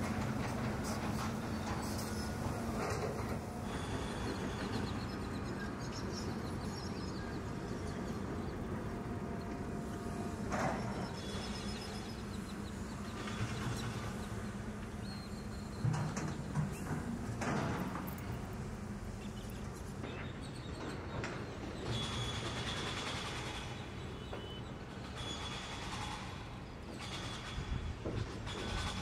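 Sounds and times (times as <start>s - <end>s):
low machinery hum: 0.0s - 29.0s.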